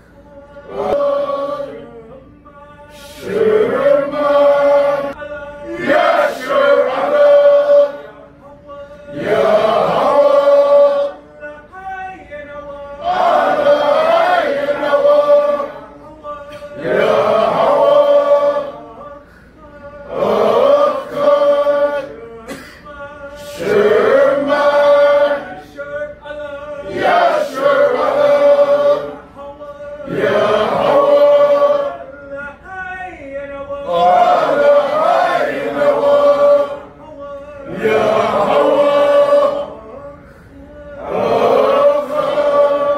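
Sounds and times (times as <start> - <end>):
men chanting a praise song: 0.0 - 42.9.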